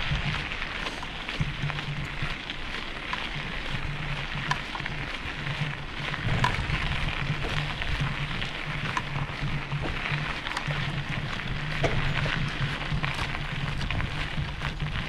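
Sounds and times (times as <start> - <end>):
footsteps crunching on trail: 0.0 - 15.0
steady outdoor hiss: 0.0 - 15.0.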